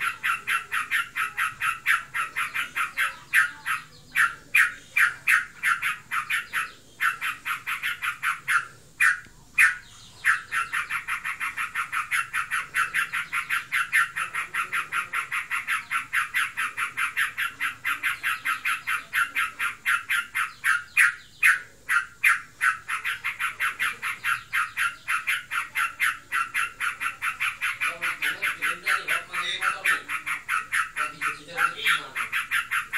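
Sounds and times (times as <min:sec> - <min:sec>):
bird chattering rattle: 0:00.0 - 0:32.9.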